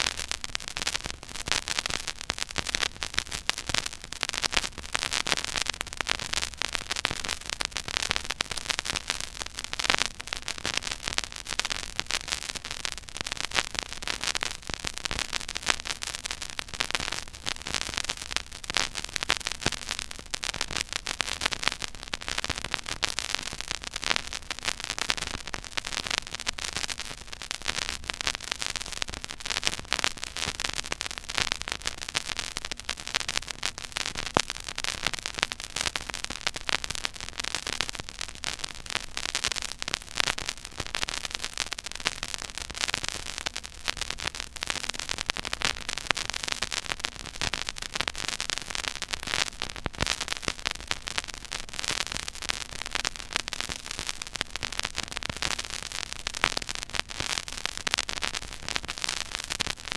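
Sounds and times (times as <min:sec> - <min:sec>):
vinyl record pops: 0:00.0 - 0:59.9
vinyl surface crackle and clicks: 0:00.0 - 0:59.9.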